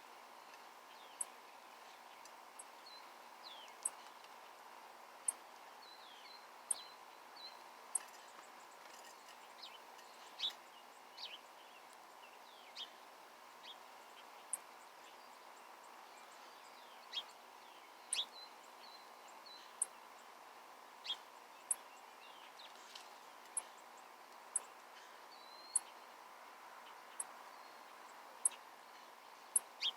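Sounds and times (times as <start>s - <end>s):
faint steady hiss: 0.0s - 29.9s
small birds chirping: 0.0s - 29.9s.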